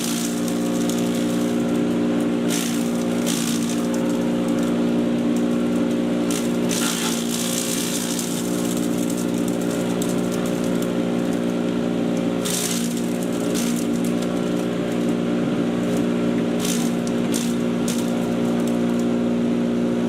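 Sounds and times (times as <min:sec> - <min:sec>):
chipper shredder motor hum: 0:00.0 - 0:20.0.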